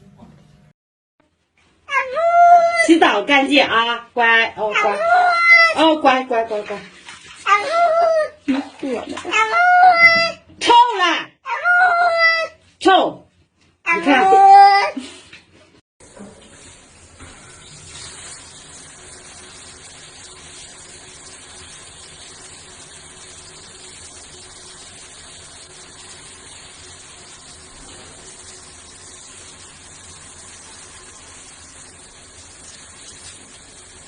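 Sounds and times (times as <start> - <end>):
water running: 1.9 - 11.2, 13.9 - 34.0.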